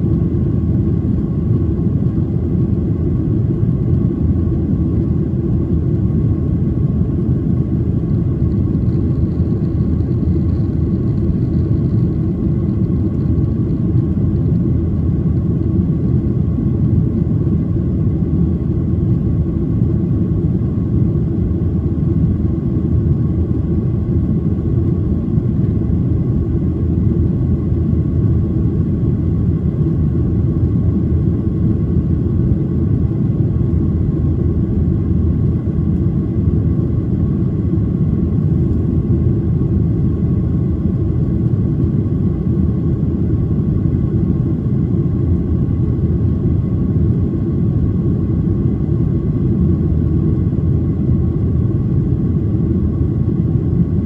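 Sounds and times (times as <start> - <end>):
airplane cabin engine rumble: 0.0 - 54.0
faint steady whine: 0.0 - 54.0.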